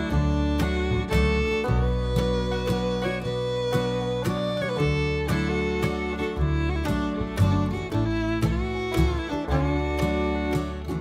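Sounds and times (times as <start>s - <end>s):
fiddle melody: 0.0s - 11.0s
guitar strumming: 0.0s - 11.0s.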